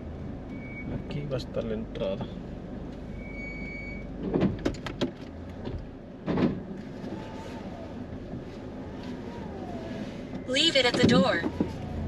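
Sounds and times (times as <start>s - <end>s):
car engine humming low: 0.0s - 12.0s.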